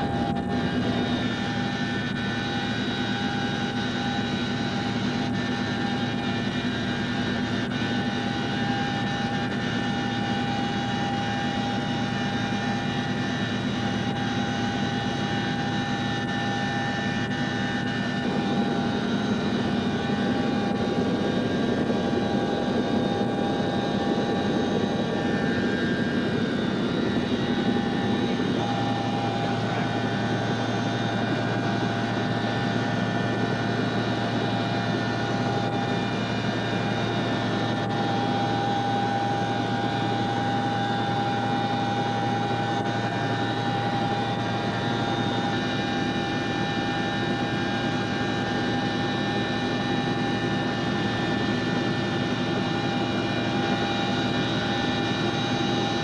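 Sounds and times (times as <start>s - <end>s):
helicopter engines and rotors droning: 0.0s - 56.0s
multi-tone whine: 0.0s - 56.0s.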